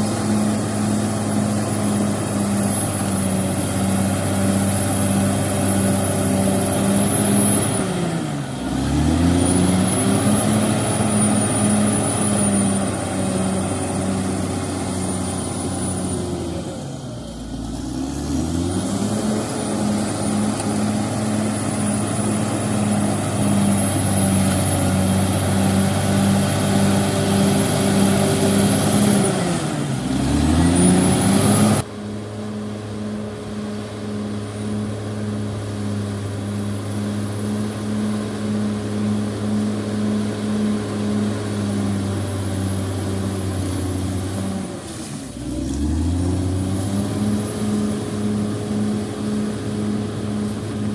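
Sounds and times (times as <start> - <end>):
bulldozer diesel engine revving: 0.0 - 50.9.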